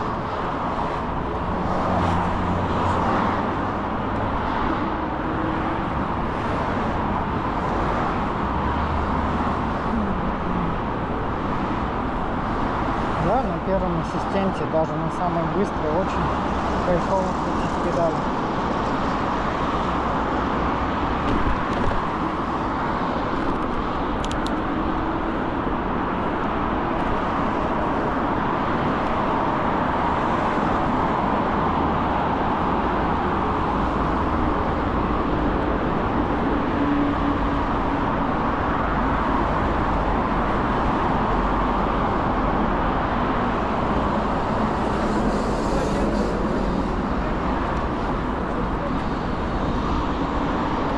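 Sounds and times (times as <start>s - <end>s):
road noise: 0.0s - 50.9s.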